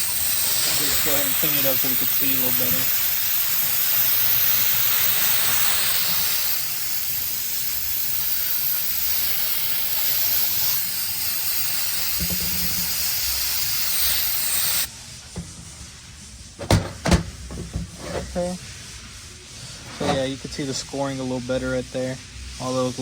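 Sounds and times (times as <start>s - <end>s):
cleaning spray hissing: 0.0s - 23.0s.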